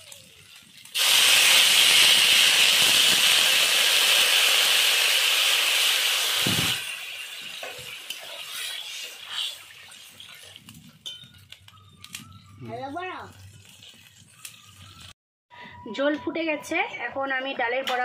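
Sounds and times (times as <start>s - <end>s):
water hissing in hot oil: 0.0s - 15.2s.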